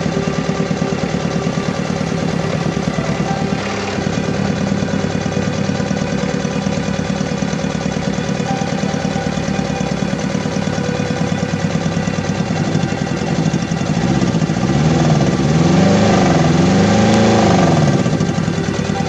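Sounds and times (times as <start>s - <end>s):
engine running with misfire: 0.0s - 19.0s.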